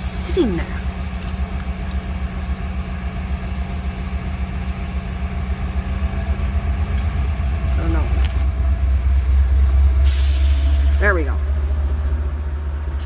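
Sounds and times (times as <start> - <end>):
constant hum: 0.0 - 13.0
diesel locomotive idling: 0.0 - 13.0.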